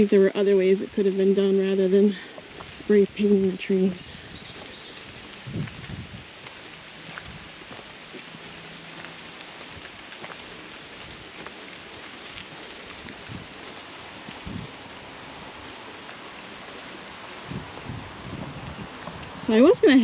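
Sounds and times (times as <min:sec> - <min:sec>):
light rain through trees: 0:00.0 - 0:20.0
raindrops ticking: 0:00.0 - 0:20.0.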